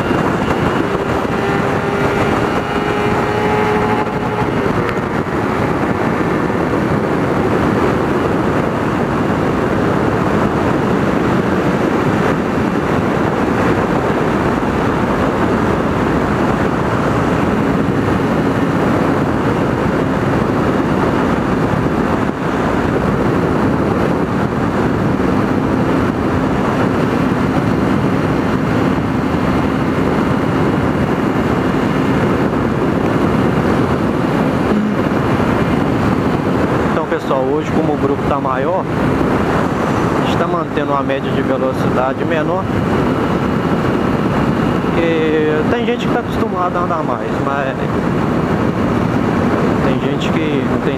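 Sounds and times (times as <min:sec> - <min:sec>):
motorcycle engine cruising: 0:00.0 - 0:50.9
wind rushing: 0:00.0 - 0:50.9.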